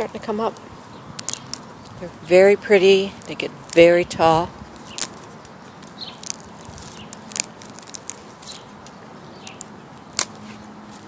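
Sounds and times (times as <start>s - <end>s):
dry plant stalks crackling: 0.0s - 11.0s.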